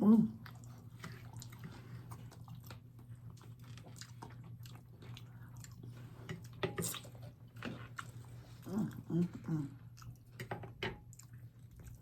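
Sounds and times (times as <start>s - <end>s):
chewing and crunching: 0.3s - 12.0s.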